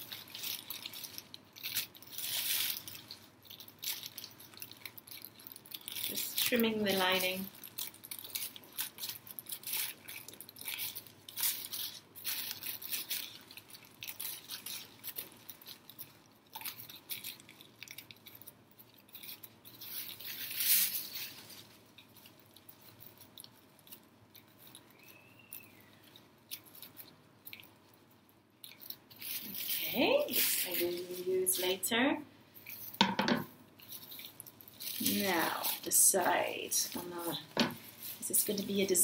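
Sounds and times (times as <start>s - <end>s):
scissors cutting plastic bag: 0.0s - 25.9s, 28.7s - 31.9s, 33.8s - 39.0s.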